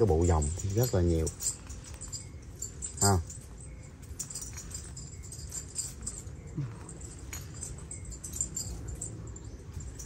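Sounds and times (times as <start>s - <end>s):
bracelets clinking and jingling: 0.0s - 10.0s.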